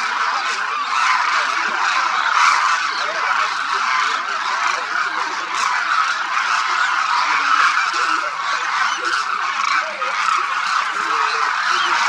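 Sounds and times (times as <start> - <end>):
flock of cranes calling: 0.0 - 12.0.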